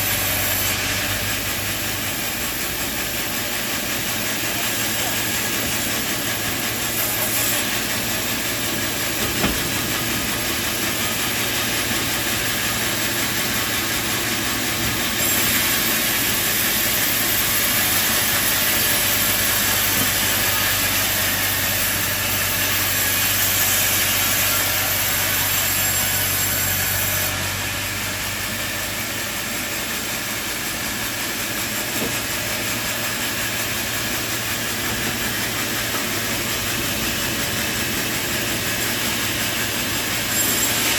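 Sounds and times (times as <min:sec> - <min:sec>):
saw cutting through timber: 0:00.0 - 0:40.9
sawmill machinery running: 0:00.0 - 0:40.9.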